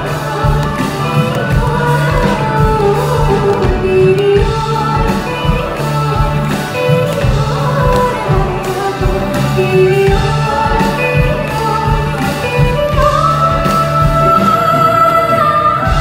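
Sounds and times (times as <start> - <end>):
live band with strings and drums: 0.0 - 16.0
woman singing: 0.0 - 16.0.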